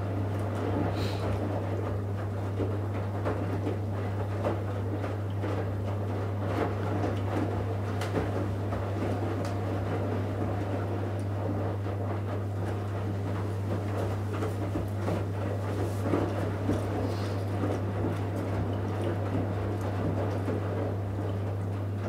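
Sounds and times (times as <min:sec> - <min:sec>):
laundry sloshing in washing machine: 0:00.0 - 0:22.0.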